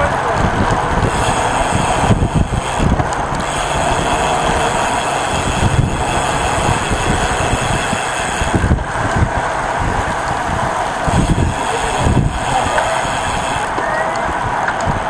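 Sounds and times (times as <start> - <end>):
tyre and road noise: 0.0 - 15.0
wind rushing over microphone: 0.0 - 15.0.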